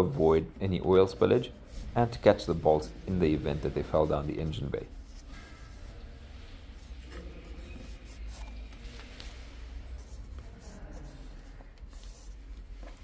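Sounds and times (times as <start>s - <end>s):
cloth rubbing against plastic trim: 0.5s - 13.0s.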